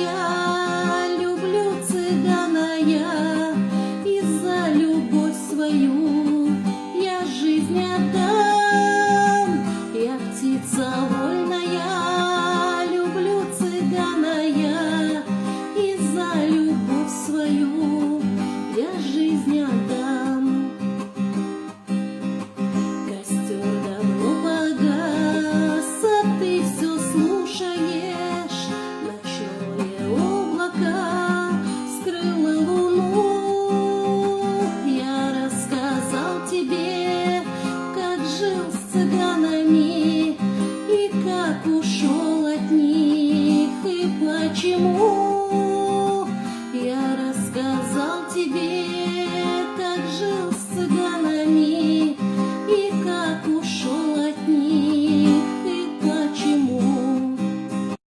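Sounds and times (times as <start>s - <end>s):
acoustic guitar: 0.0s - 58.0s
woman singing: 0.0s - 58.0s.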